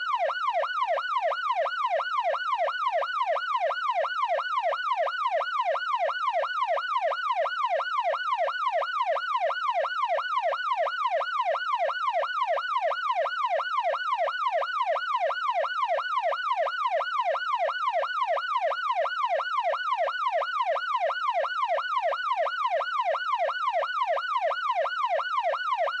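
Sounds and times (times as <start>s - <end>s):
police siren yelp: 0.0s - 26.0s.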